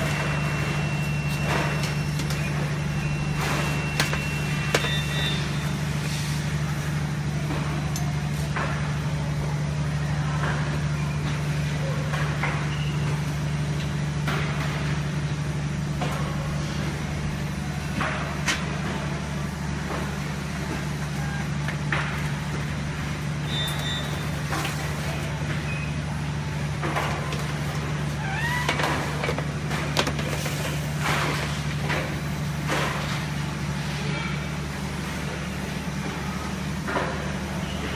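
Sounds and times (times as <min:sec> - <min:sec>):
oven production line hum: 0:00.0 - 0:37.9.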